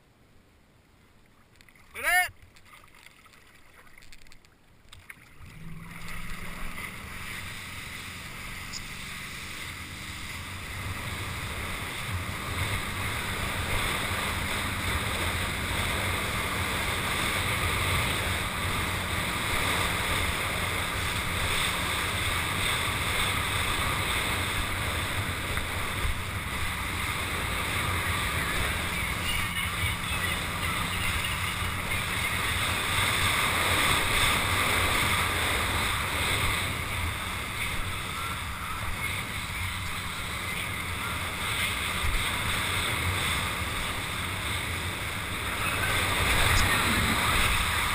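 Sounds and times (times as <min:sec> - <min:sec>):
water spraying off water ski: 0:05.3 - 0:47.9
wind buffeting microphone: 0:05.4 - 0:47.9.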